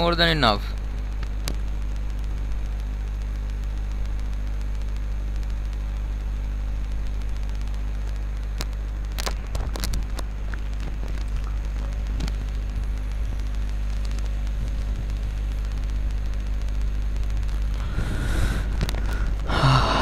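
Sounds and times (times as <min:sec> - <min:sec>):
low electrical hum: 0:00.0 - 0:20.0
sharp clicks: 0:00.7 - 0:20.0.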